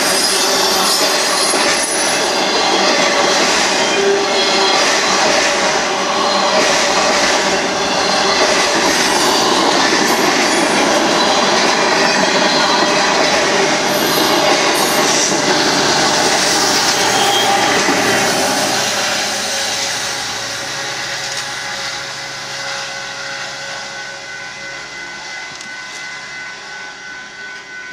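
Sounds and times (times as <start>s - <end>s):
wheels squealing: 0.0s - 23.7s
freight train cars rolling: 0.0s - 27.7s.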